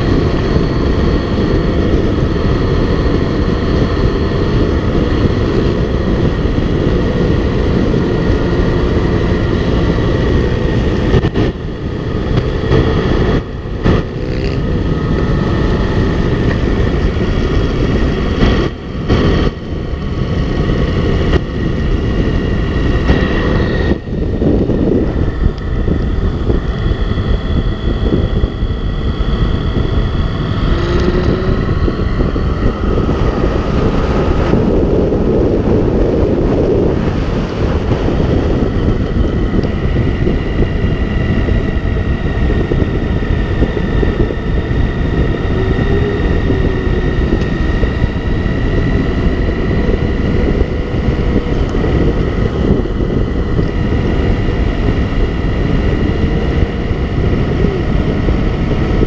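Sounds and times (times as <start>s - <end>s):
motorcycle engine drone: 0.0s - 59.0s
wind buffeting microphone: 0.0s - 59.0s.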